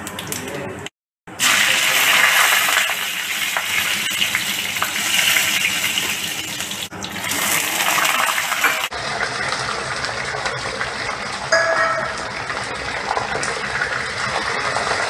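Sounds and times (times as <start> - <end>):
spices sizzling in hot oil: 1.4 - 15.0.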